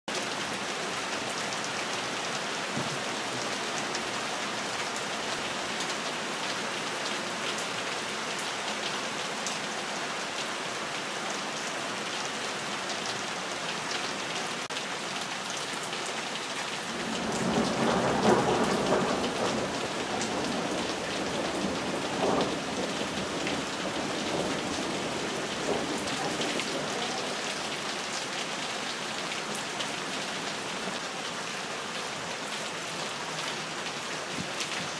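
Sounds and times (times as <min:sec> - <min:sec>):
rain on trees and leaves: 0:00.1 - 0:34.9.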